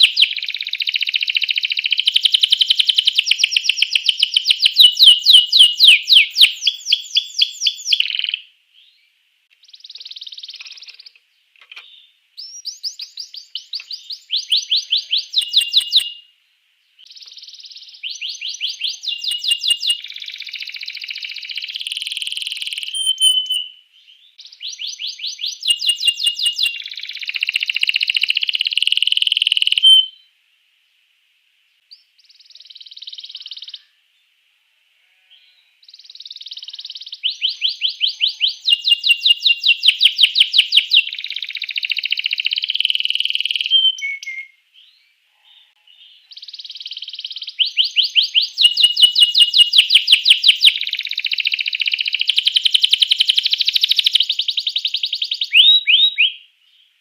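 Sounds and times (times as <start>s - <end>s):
canary trilling song: 0.0s - 9.0s, 9.6s - 16.4s, 17.0s - 30.3s, 31.9s - 34.0s, 35.0s - 56.5s.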